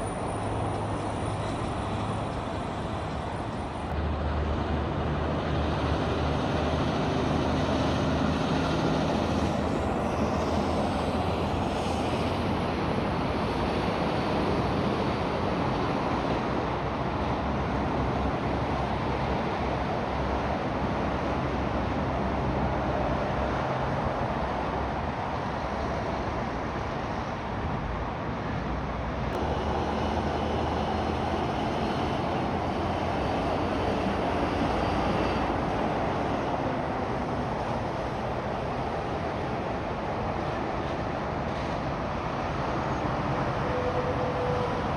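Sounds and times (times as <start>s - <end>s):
trucks driving past: 0.0s - 44.9s.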